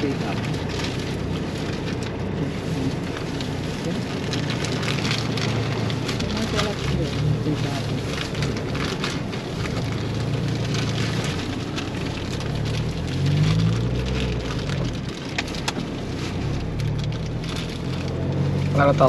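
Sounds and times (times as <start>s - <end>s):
scattered crackles: 0.0s - 19.0s
vehicle engine revving: 0.0s - 19.0s.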